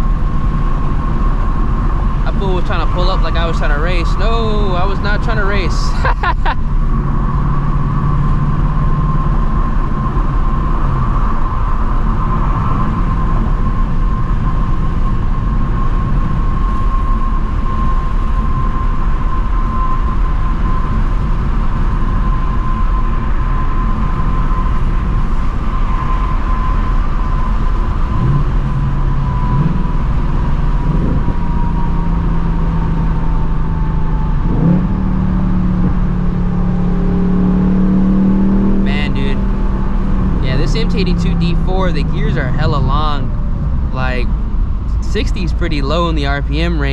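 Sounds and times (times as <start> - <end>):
faint steady whine: 0.0 - 38.0
car engine cruising: 0.0 - 46.9
road rumble: 0.0 - 46.9.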